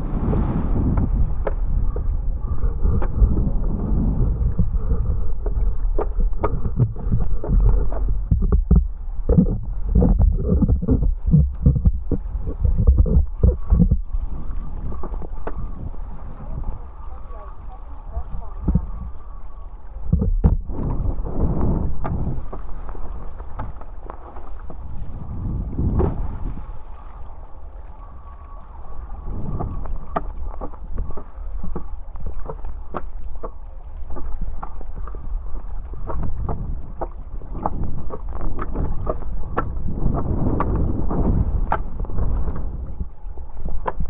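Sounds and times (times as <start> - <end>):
water splashes and slaps: 0.0 - 2.1, 2.9 - 44.0
wind buffeting microphone: 0.0 - 44.0.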